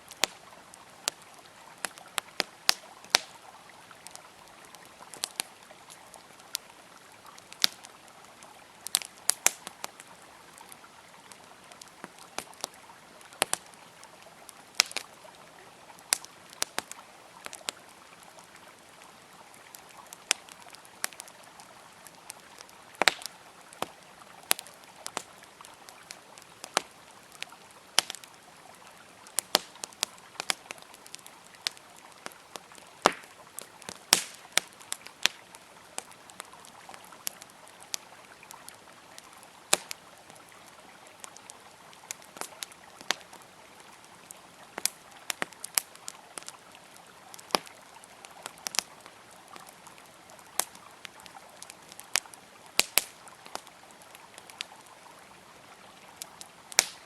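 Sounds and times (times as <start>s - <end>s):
wood fire crackling and popping: 0.0s - 54.7s, 56.1s - 57.0s.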